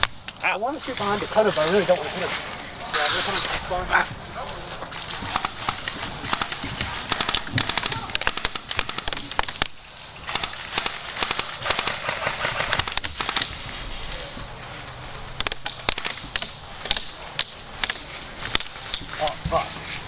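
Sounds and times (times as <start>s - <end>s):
airsoft guns firing bursts: 2.9s - 19.7s.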